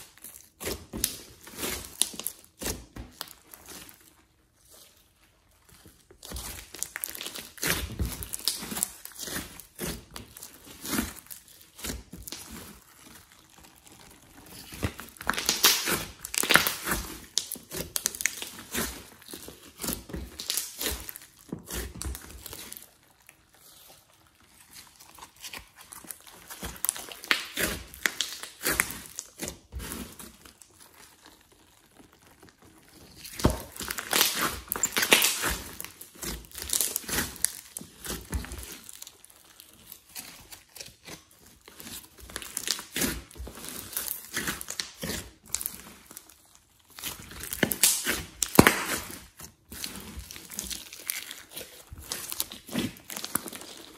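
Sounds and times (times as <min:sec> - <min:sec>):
slime squished by hand: 0:00.0 - 0:53.9.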